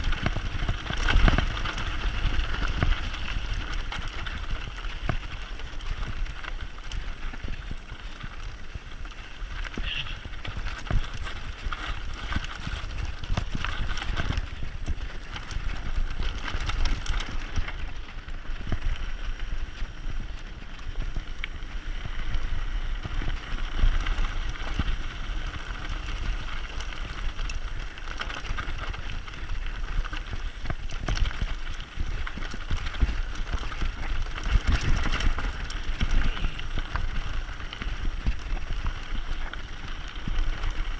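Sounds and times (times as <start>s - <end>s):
bike rattles and knocks: 0.0s - 40.9s
bike tyres on dirt: 0.0s - 40.9s.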